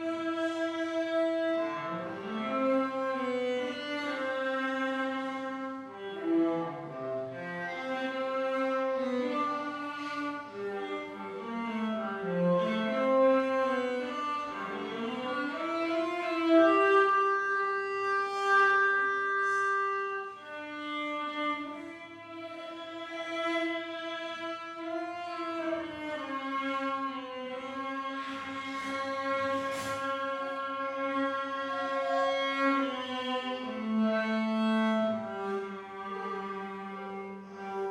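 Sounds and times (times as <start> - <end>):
cello playing slow melody: 0.0 - 37.9.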